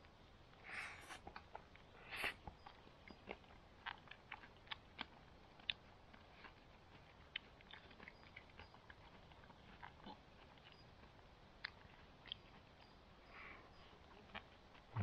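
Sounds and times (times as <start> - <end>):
person chewing: 0.5 - 15.0.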